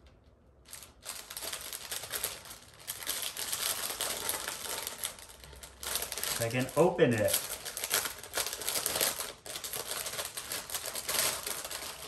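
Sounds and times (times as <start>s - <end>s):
plastic bag crinkling: 0.6s - 12.0s.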